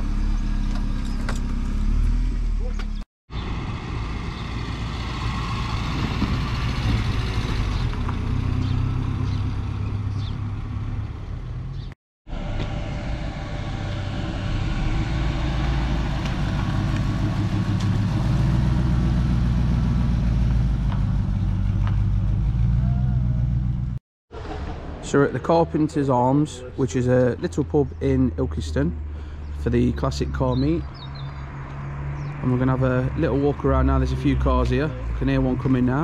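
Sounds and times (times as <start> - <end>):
car engines driving slowly: 0.0 - 36.0.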